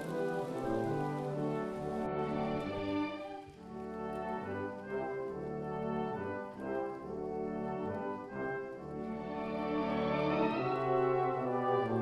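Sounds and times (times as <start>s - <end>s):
orchestral music with brass: 0.0s - 12.0s.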